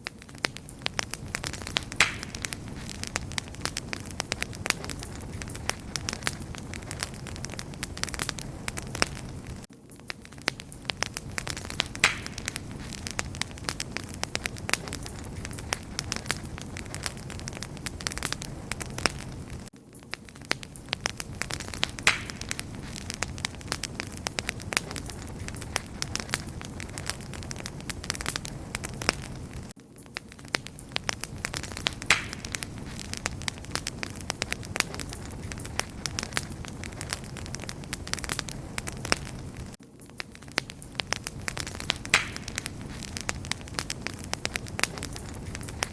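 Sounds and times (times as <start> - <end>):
low rumble of flames: 0.0 - 45.9
wood fire crackling and popping: 0.0 - 45.9.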